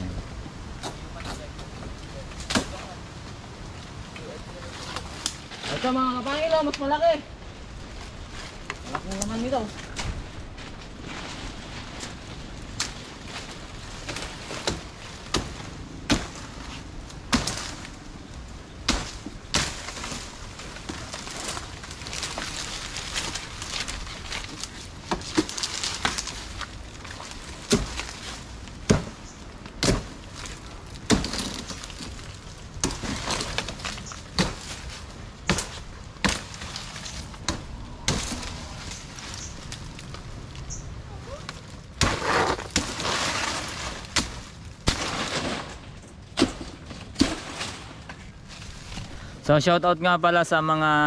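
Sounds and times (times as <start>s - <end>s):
rustling crackling of leaves: 0.0s - 51.0s.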